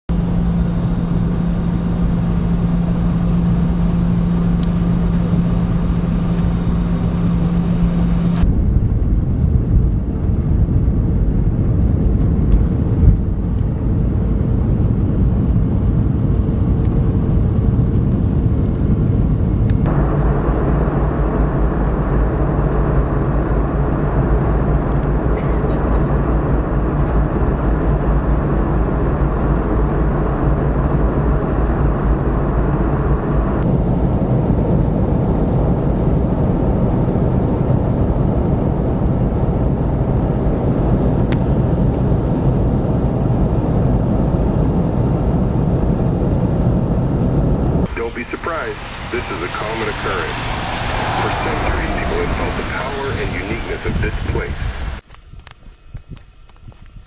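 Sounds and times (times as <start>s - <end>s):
steady hum: 0.1s - 57.0s
vehicle running low rumble: 0.1s - 57.0s.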